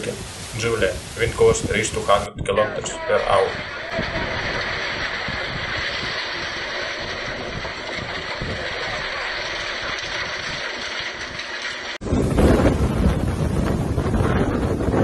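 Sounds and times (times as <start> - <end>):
wind and rain rushing: 0.0 - 15.0
low rumble: 2.7 - 15.0.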